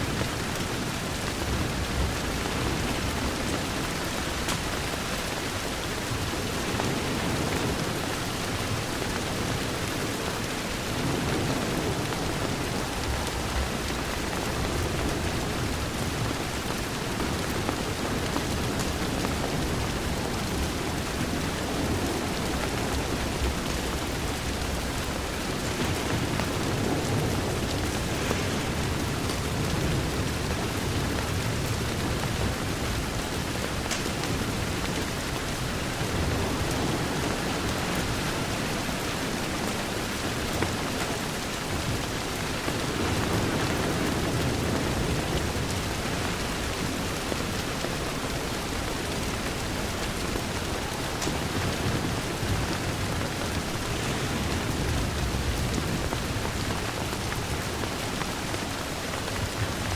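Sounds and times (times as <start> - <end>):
heavy rain pattering on window: 0.0 - 59.9.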